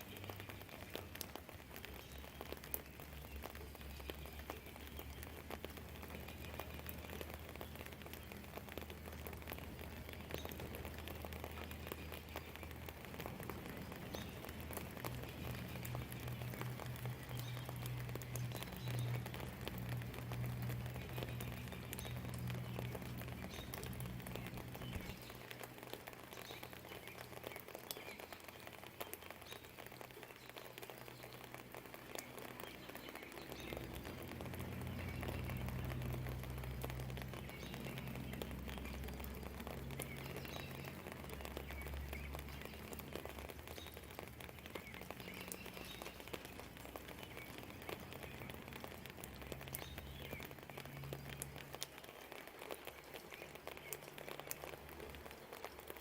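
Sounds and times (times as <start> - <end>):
faint birdsong chirping: 0.0 - 56.0
steady rain: 0.0 - 56.0.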